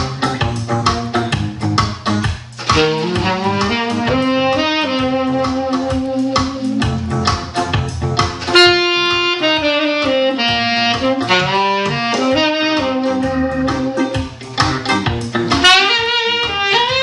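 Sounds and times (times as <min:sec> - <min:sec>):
instrumental backing with guitar: 0:00.0 - 0:17.0
saxophone melody: 0:02.6 - 0:17.0.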